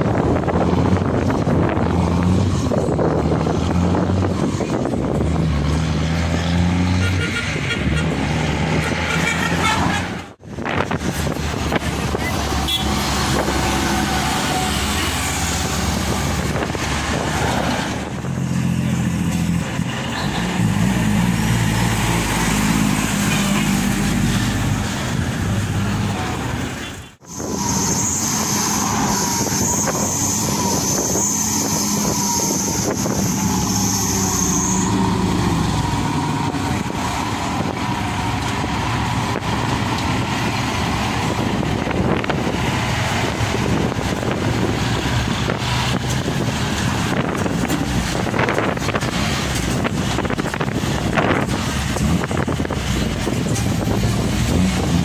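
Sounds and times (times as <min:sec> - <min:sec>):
trucks and cars passing: 0:00.0 - 0:55.0.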